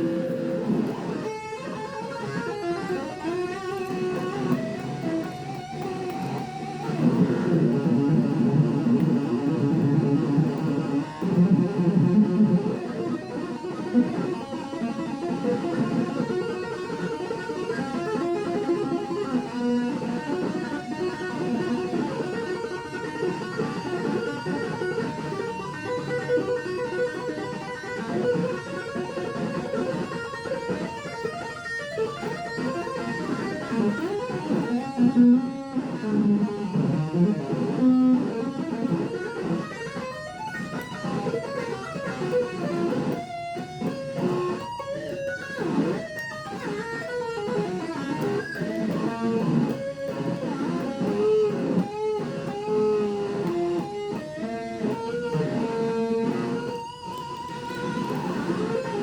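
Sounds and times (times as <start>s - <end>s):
electric guitar melody: 0.0s - 59.0s.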